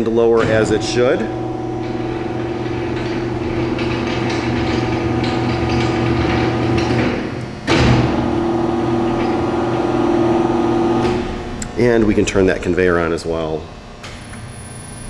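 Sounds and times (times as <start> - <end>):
belt sander humming: 0.0 - 14.5.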